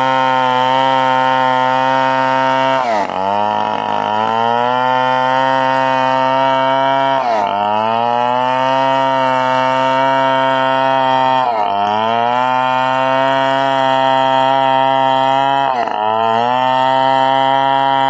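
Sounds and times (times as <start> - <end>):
chainsaw cutting timber: 0.0 - 18.0.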